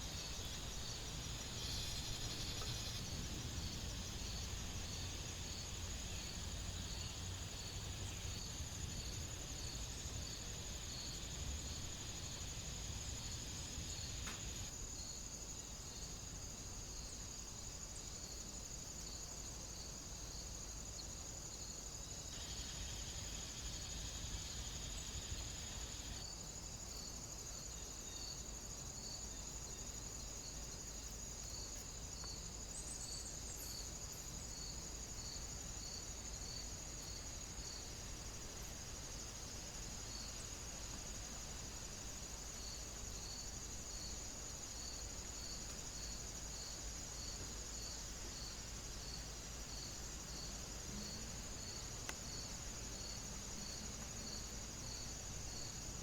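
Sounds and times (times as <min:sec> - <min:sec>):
cricket chirping: 0:00.0 - 0:56.0
insects trilling: 0:00.0 - 0:56.0.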